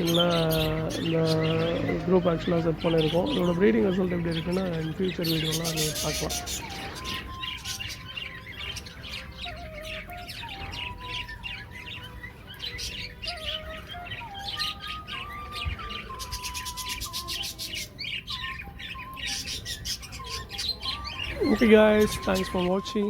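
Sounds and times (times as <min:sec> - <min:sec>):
budgerigars chattering and chirping: 0:00.0 - 0:23.0.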